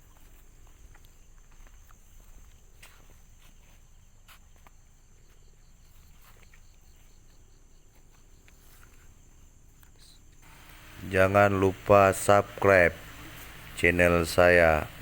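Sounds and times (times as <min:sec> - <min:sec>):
cricket chirps: 0:00.0 - 0:15.0
insects droning: 0:00.0 - 0:15.0.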